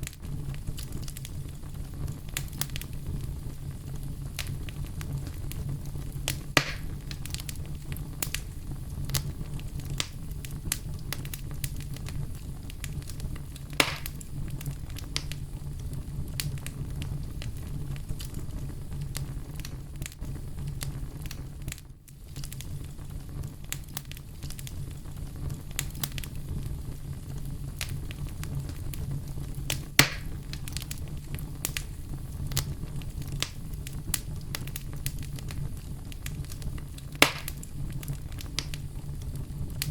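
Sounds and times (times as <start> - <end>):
bonfire crackling: 0.0 - 39.9
fire low rumble: 0.0 - 39.9
loud fire pops: 0.0 - 39.9.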